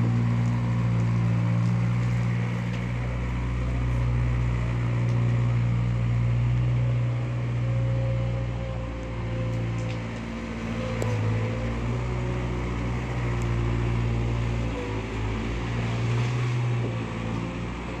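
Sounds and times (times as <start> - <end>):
diesel loader engine running: 0.0 - 18.0.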